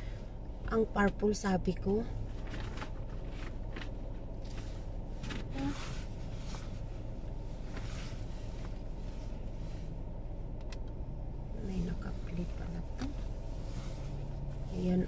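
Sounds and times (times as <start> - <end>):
car road and engine rumble: 0.0 - 15.0
faint rustles and clicks: 0.2 - 11.0, 11.7 - 15.0.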